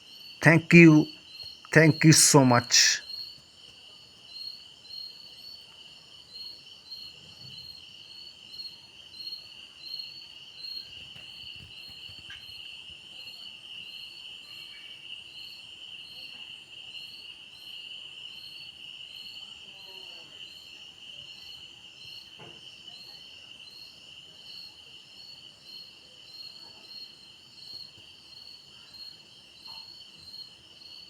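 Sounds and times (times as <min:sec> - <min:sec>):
insects trilling: 0:00.1 - 0:31.0.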